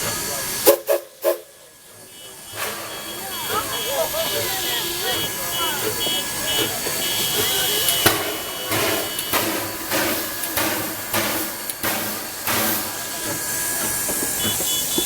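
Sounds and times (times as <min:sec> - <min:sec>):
steam engine exhaust chuffing: 0:00.0 - 0:15.0
steam hissing: 0:00.0 - 0:15.0.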